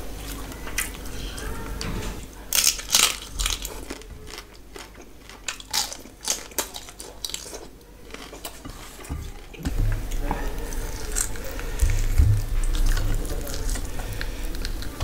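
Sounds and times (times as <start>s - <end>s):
person chewing food: 2.5s - 15.0s.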